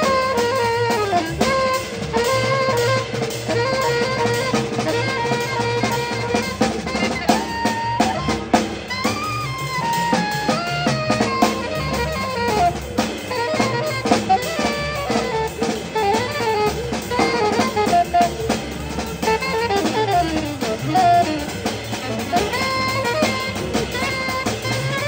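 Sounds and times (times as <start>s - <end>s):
alto saxophone melody: 0.0s - 25.0s
drum kit with cymbals: 0.0s - 25.0s
piano: 0.0s - 25.0s
upright double bass: 0.0s - 25.0s.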